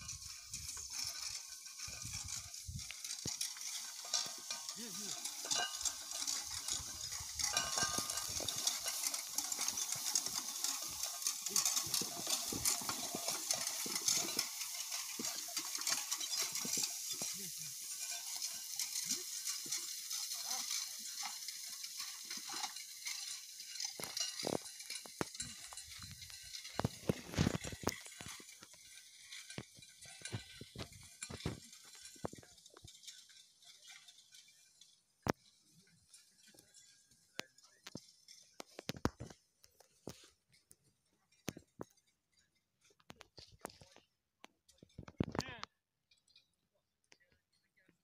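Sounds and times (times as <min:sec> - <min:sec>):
dry hay crackling rustle: 0:00.0 - 0:41.7
rake clatter: 0:00.0 - 0:47.9.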